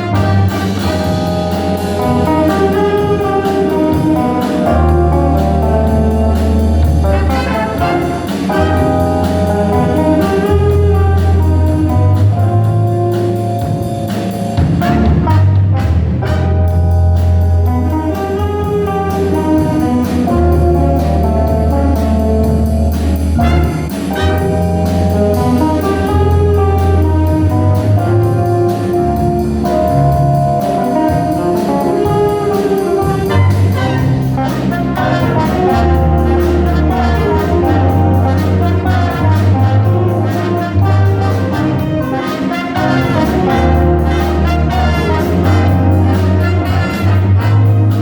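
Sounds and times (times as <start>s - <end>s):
bass line: 0.0s - 48.0s
drums steady beat: 0.0s - 48.0s
jazz band with horns: 0.0s - 48.0s.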